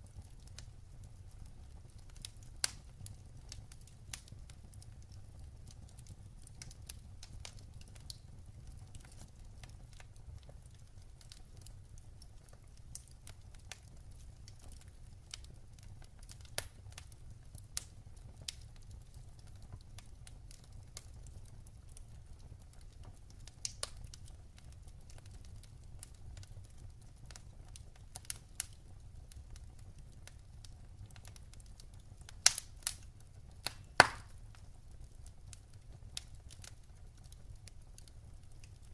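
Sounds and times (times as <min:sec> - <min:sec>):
firewood burning low rumble: 0:00.0 - 0:38.9
logs crackling and popping: 0:00.0 - 0:38.9.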